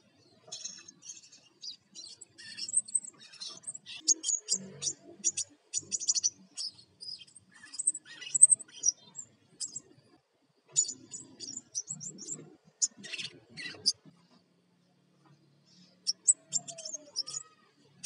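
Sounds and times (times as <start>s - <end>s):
bird chirping chatter: 0.0s - 14.4s, 15.2s - 18.0s.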